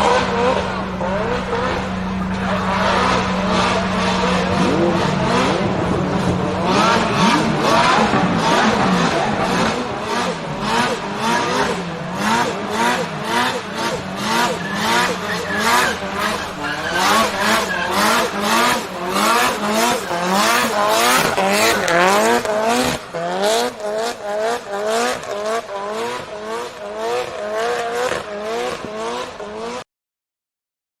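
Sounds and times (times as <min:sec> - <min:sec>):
car engine revving hard: 0:00.0 - 0:29.8
spinning tyres squealing: 0:00.0 - 0:29.8.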